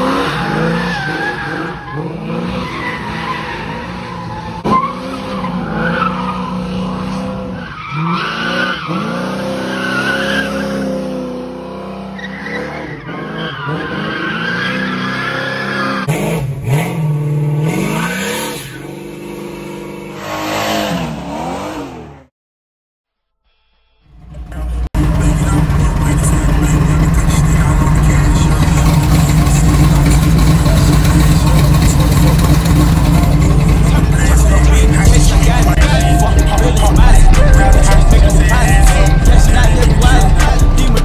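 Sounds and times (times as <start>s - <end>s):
car engines revving: 0.0s - 22.3s, 24.2s - 41.0s.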